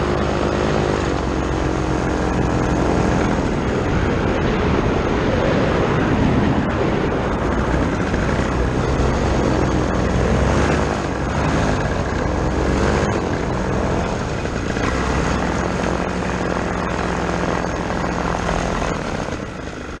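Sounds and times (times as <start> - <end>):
paramotor engine and propeller: 0.0 - 20.0
wind on microphone: 0.0 - 20.0.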